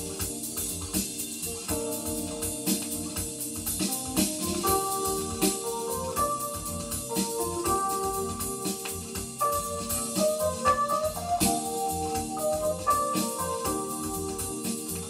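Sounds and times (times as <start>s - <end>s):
keyboard music over a beat: 0.0s - 15.0s.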